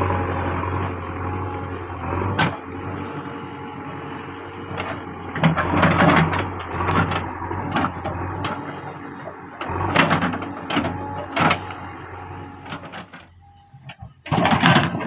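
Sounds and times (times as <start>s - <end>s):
bucket scraping and knocking rock: 0.0s - 13.3s
diesel engine running: 0.0s - 15.0s.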